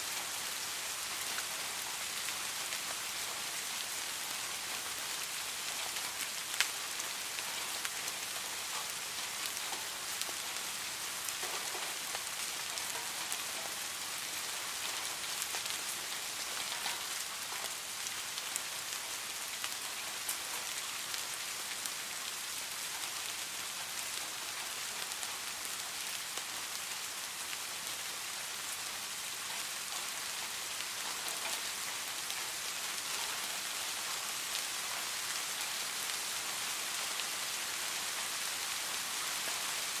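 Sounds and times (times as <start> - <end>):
raindrops ticking on a surface: 0.0 - 40.0
steady rain falling: 0.0 - 40.0.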